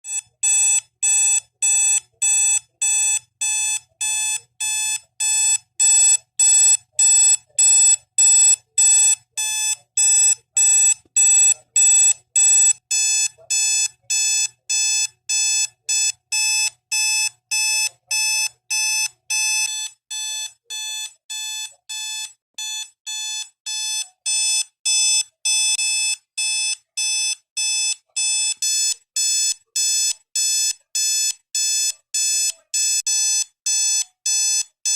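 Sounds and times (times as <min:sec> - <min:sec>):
alarm clock beeping: 0:00.1 - 0:34.9.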